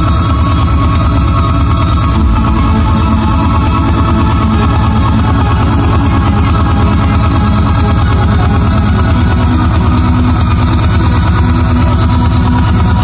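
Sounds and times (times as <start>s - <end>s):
loud trance music: 0.0s - 13.0s.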